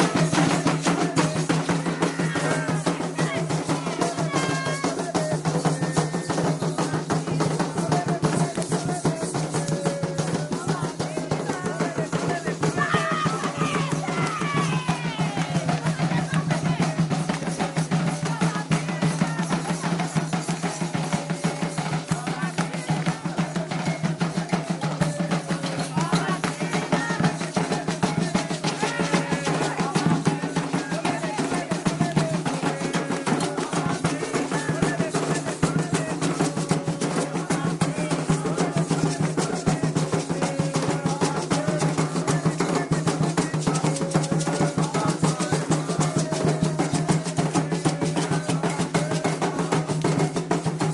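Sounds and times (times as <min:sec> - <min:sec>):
hand drums fast rhythm: 0:00.0 - 0:50.9
voices singing a chant: 0:00.0 - 0:50.9.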